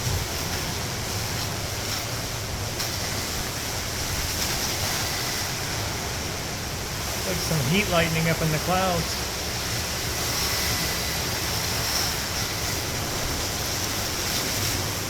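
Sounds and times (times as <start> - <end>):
driving rain: 0.0 - 15.0
hurricane wind: 0.0 - 15.0.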